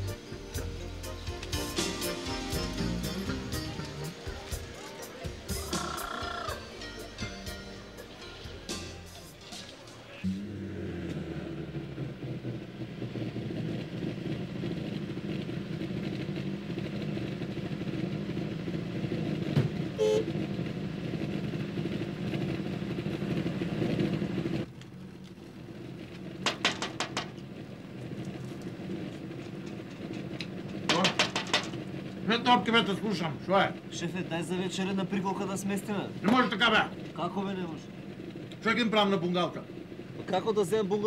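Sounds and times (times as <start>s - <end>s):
car engine rumbling: 0.0s - 41.0s.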